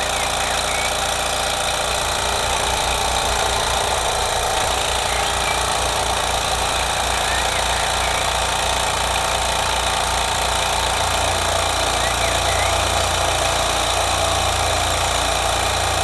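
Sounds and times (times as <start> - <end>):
model steam engine beating: 0.0 - 16.0.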